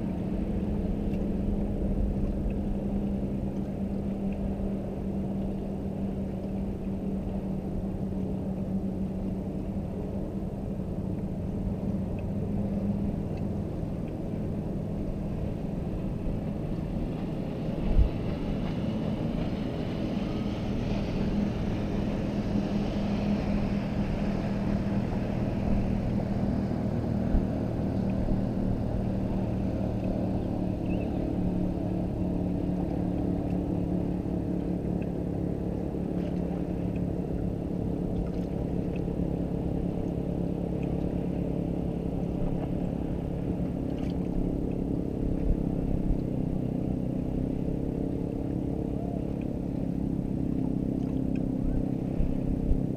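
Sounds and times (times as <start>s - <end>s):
boat motor humming: 0.0s - 52.9s
wind and water rumble: 0.0s - 52.9s.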